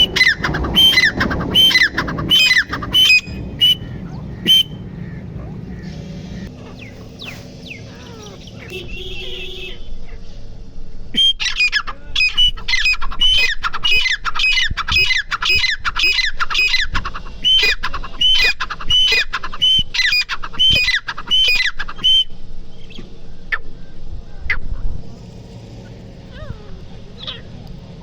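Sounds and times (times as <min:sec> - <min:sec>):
francolin calling: 0:00.0 - 0:09.5, 0:11.1 - 0:24.9, 0:26.3 - 0:27.7.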